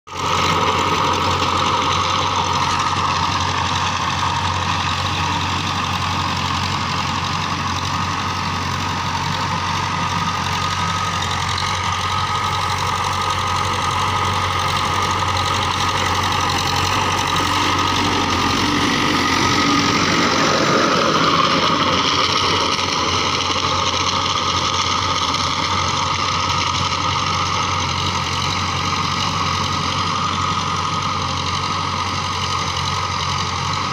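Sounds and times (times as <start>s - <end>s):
tractor diesel engine under load: 0.0s - 33.9s
tiller churning: 0.1s - 33.9s.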